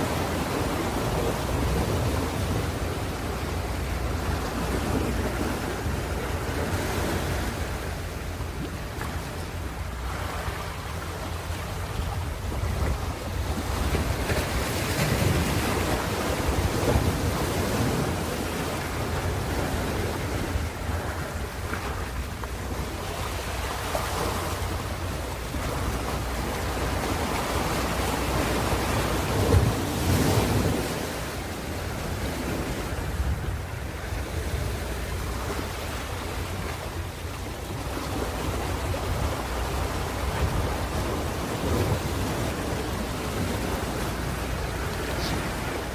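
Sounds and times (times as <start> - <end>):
low rumble of surf: 0.0 - 45.9
waves breaking on a shore: 0.0 - 45.9.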